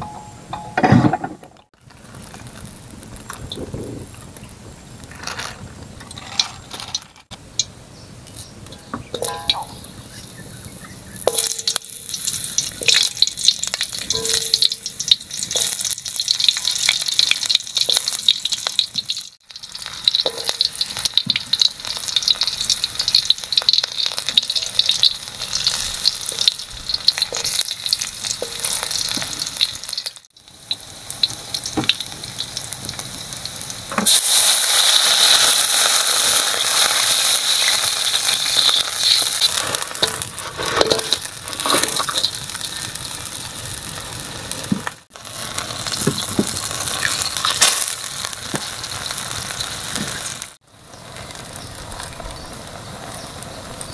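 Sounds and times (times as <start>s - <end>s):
oil sizzling in a wok: 1.8s - 53.9s.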